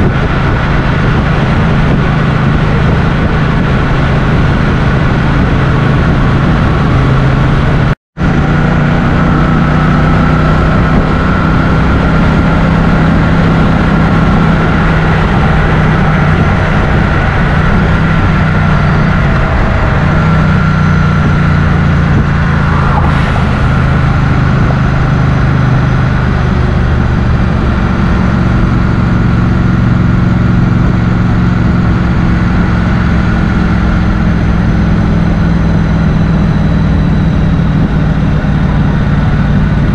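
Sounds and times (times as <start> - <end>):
motorcycle engine running: 0.0 - 39.9
rushing noise: 0.0 - 39.9.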